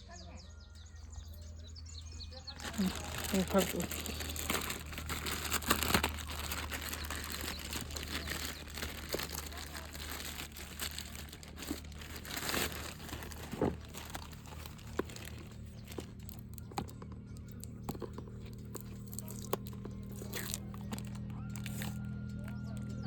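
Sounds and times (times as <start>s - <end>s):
packaging torn and crinkled: 2.6s - 22.2s.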